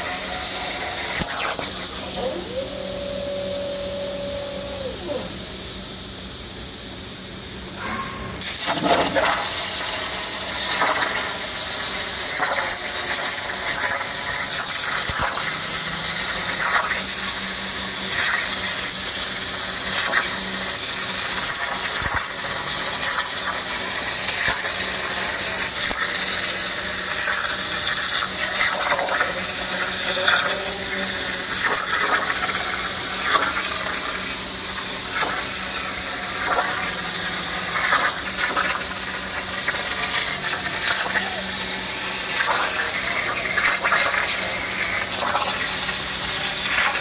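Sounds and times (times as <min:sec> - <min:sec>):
plasma torch hissing: 0:00.0 - 0:47.0.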